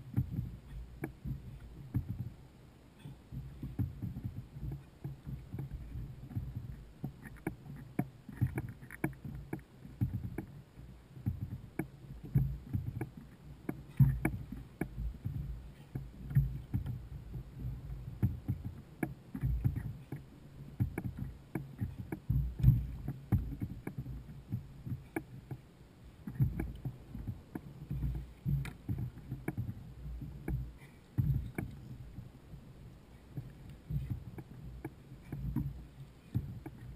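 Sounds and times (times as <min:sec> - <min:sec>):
thumps against kayak hull: 0:00.0 - 0:02.4, 0:03.4 - 0:10.6, 0:11.2 - 0:25.6, 0:26.2 - 0:32.3, 0:33.3 - 0:36.9.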